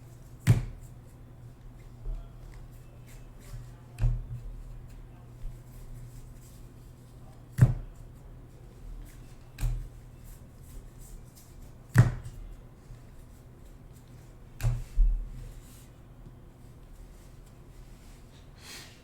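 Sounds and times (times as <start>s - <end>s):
faint low hum: 0.0s - 18.6s.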